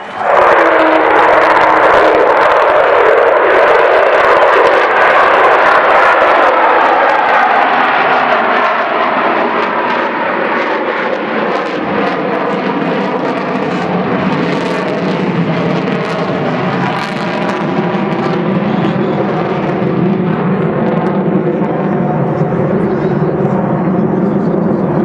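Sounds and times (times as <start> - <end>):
jet bomber roaring in flight: 0.0 - 25.0.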